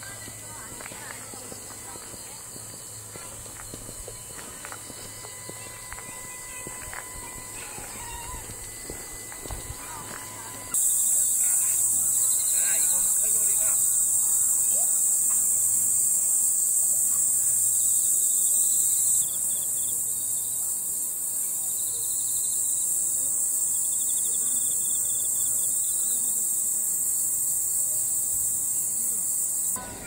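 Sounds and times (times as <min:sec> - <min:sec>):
insect pulsing trills: 0:00.0 - 0:29.8
insects chorus shrill drone: 0:00.0 - 0:30.0.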